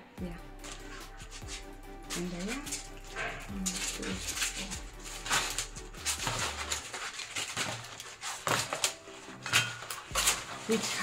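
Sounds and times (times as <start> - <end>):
artificial leaves rustling: 0.4 - 11.0.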